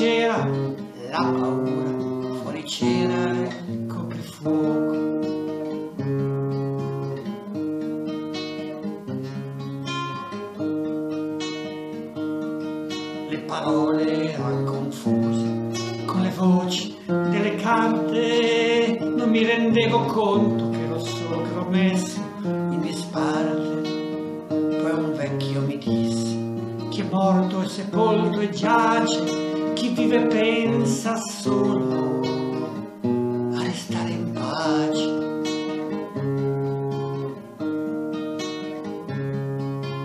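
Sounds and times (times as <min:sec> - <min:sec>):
acoustic guitar chords: 0:00.0 - 0:40.0.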